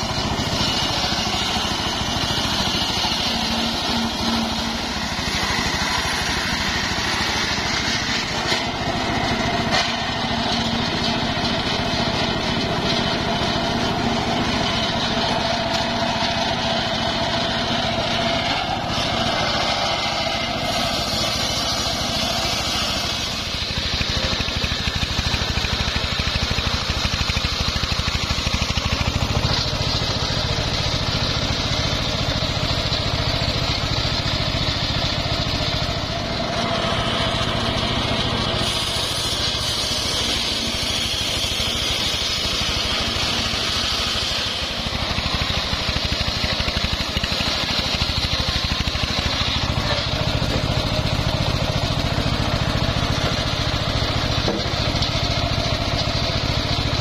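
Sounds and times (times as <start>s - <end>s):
circular sawmill sawing timber: 0.0s - 57.0s.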